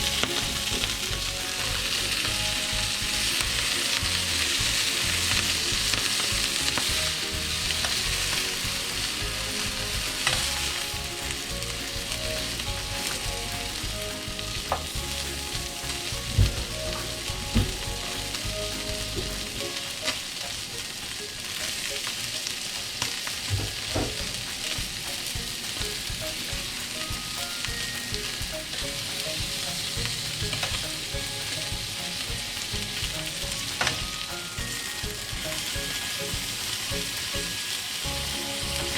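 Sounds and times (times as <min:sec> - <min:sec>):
steak sizzling in frying pan: 0:00.0 - 0:38.9.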